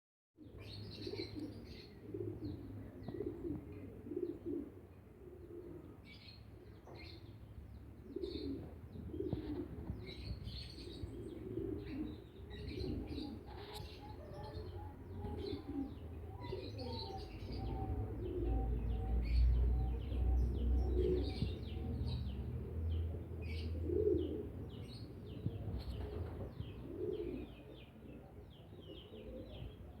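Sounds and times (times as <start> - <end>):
birds chirping: 5.4 - 30.0.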